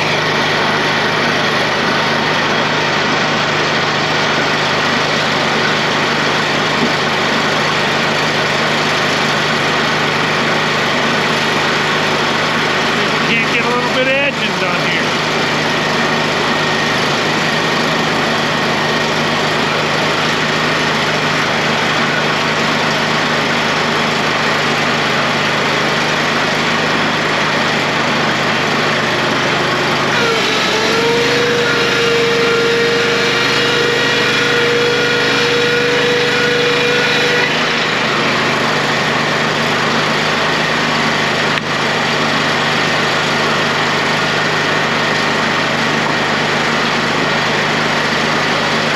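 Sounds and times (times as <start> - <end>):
saw machine drone: 0.0 - 48.9.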